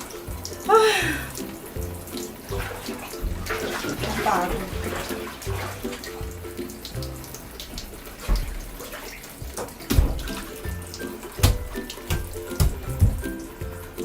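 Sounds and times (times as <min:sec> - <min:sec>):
background music: 0:00.0 - 0:14.0
water sloshing in a bathtub: 0:00.0 - 0:14.0
water splashes: 0:00.0 - 0:14.0.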